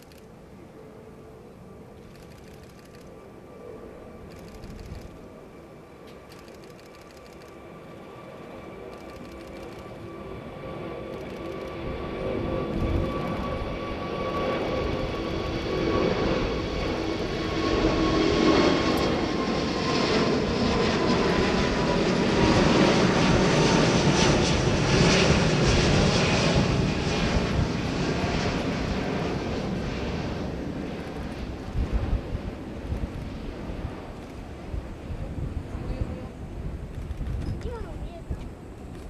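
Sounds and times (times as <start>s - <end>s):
jet airliner roar with whine: 0.0s - 39.0s.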